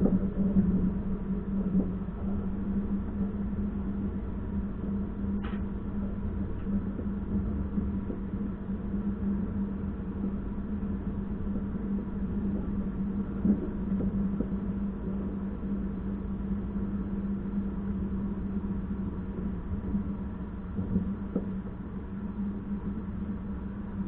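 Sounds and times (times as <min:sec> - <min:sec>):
constant hum: 0:00.0 - 0:24.0.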